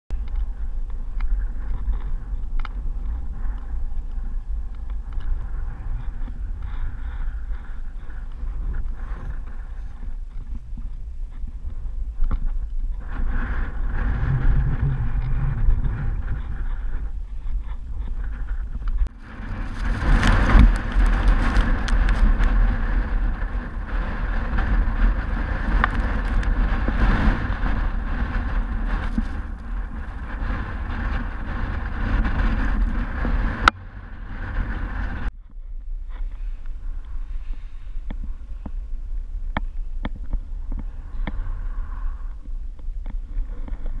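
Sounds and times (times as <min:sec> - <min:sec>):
strong wind buffeting microphone: 0:00.1 - 0:44.0.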